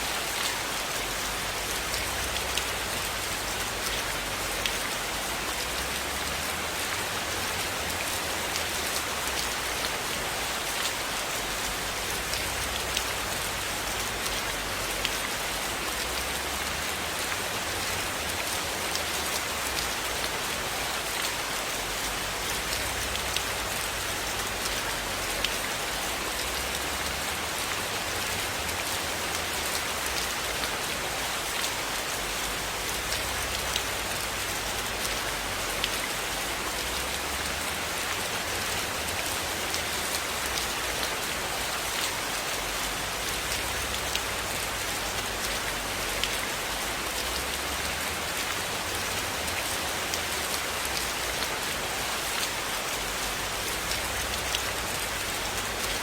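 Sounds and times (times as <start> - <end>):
rain falling on a surface: 0.0 - 56.0.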